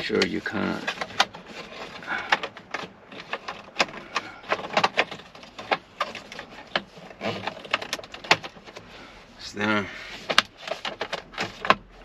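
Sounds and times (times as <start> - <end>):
plastic parts clicking: 0.0 - 8.9, 10.1 - 12.0.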